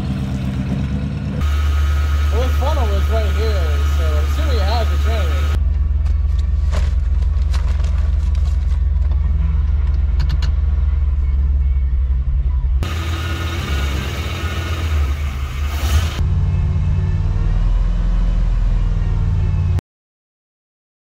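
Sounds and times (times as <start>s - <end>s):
truck engine idling: 0.0s - 17.5s.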